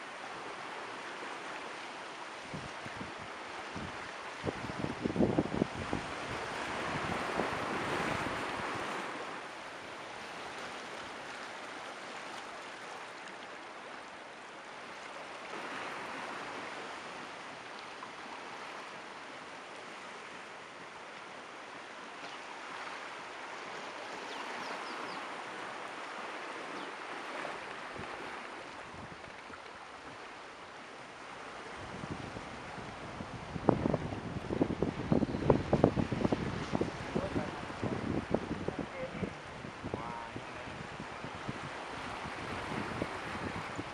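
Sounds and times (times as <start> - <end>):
surf washing against rocks: 0.0 - 43.9.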